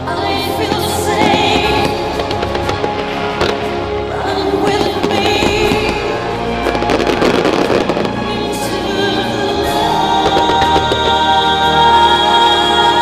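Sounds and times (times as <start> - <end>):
loud music with sustained tones: 0.0 - 13.0
firework bursts and crackling: 0.6 - 11.8.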